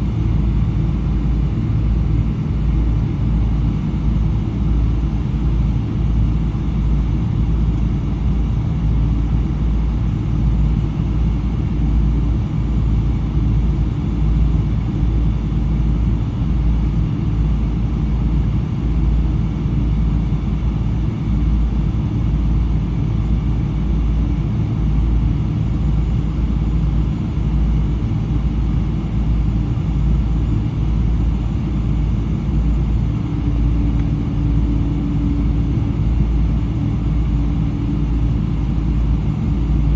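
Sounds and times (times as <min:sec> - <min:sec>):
airplane cabin rumble: 0:00.0 - 0:39.9
faint steady hum: 0:00.0 - 0:39.9.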